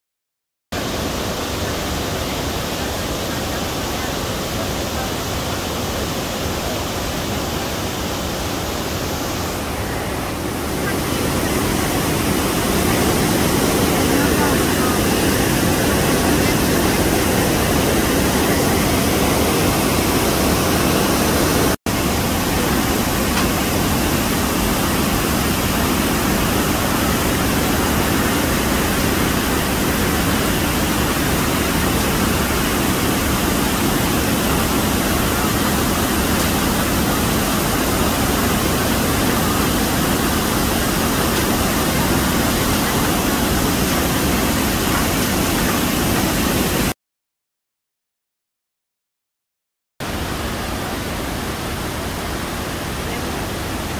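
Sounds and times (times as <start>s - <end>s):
waterfall roaring: 0.8s - 46.9s, 50.0s - 53.9s.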